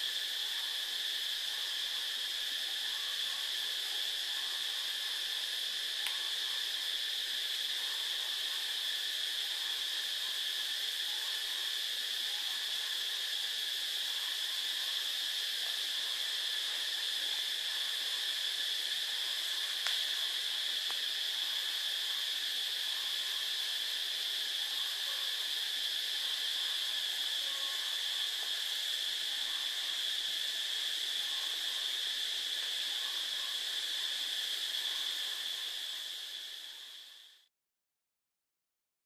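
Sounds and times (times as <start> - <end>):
insect chorus buzzing: 0.0 - 37.5.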